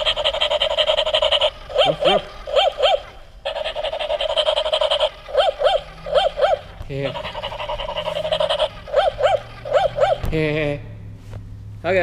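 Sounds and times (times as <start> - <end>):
toy puppy yipping barks: 0.0 - 10.4.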